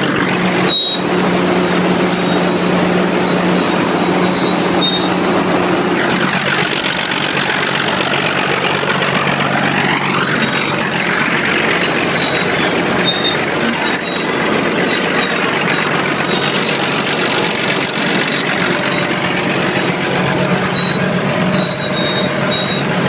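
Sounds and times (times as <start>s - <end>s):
diesel dozer engine running hard: 0.0s - 23.0s
engine valve-train noise: 0.0s - 23.0s.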